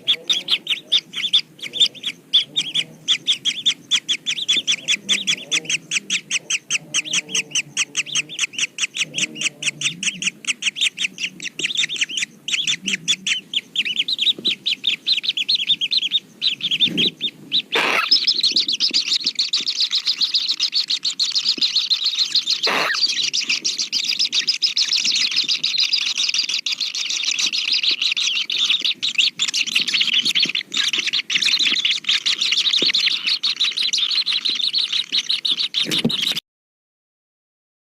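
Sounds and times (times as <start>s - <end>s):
kingfishers chirping: 0.0s - 36.4s.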